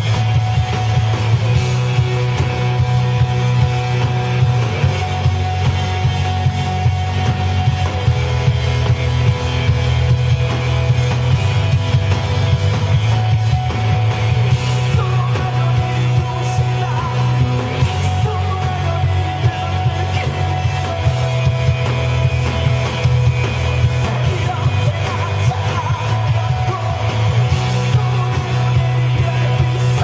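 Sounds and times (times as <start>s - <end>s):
bass guitar: 0.0s - 30.0s
drums: 0.0s - 30.0s
electric guitars: 0.0s - 30.0s.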